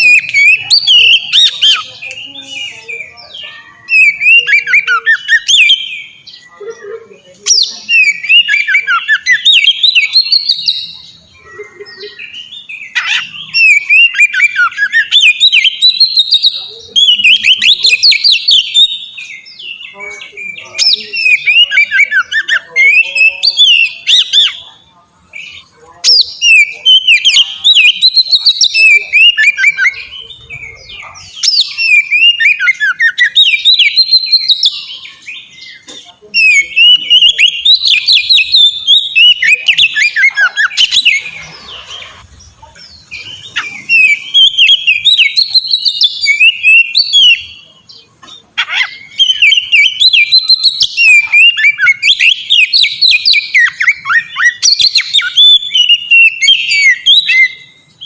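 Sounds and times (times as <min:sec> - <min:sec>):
songbird whistling and chattering: 0:00.0 - 0:58.0.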